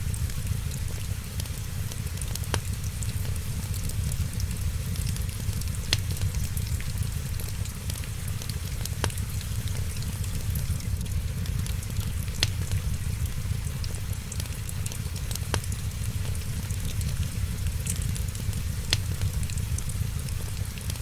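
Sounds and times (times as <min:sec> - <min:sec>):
wood fire crackling: 0:00.0 - 0:21.0
sharp fire pops: 0:02.4 - 0:14.5, 0:15.3 - 0:20.7.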